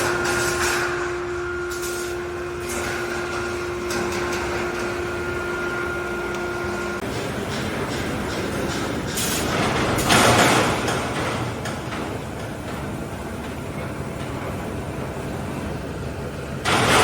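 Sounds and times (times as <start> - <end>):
welding machine humming: 0.0 - 17.0.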